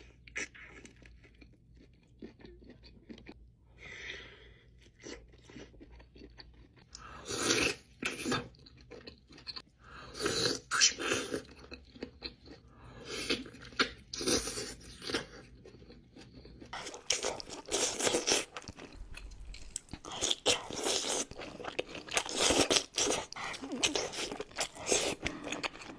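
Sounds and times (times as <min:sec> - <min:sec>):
chewing and crunching: 0:00.0 - 0:03.4, 0:04.7 - 0:25.9.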